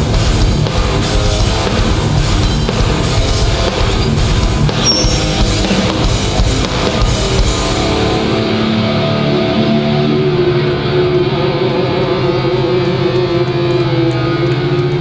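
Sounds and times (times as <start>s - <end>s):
bass guitar: 0.0s - 15.0s
distorted electric guitars: 0.0s - 15.0s
driving drum kit: 0.0s - 15.0s.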